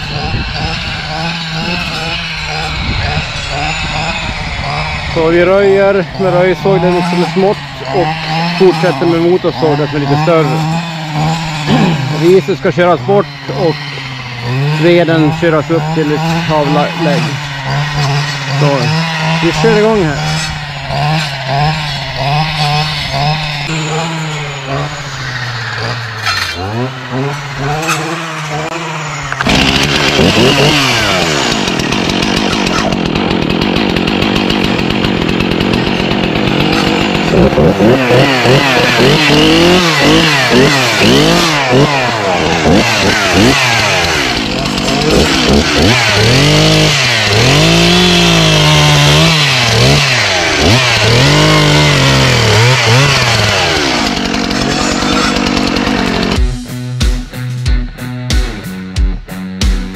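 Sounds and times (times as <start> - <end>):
two-stroke saw engine revving: 0.0 - 56.7.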